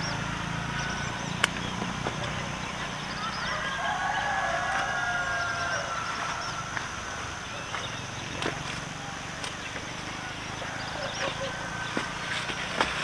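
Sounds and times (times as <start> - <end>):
drawn-out animal call: 0.0 - 13.0
steady low hum: 0.0 - 13.0.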